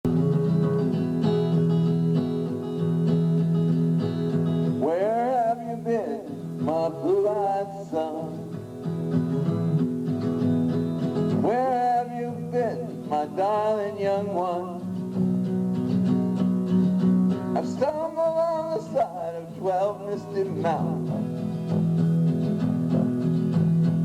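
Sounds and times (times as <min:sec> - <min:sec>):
acoustic guitar playing chords: 0:00.0 - 0:24.0.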